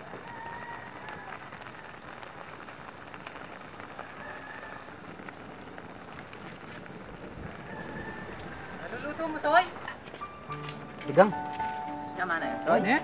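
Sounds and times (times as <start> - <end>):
broth bubbling at a rolling boil: 0.0 - 11.3.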